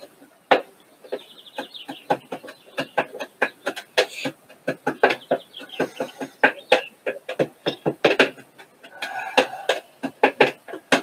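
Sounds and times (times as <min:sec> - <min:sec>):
high rapid twittering: 0:00.7 - 0:10.8.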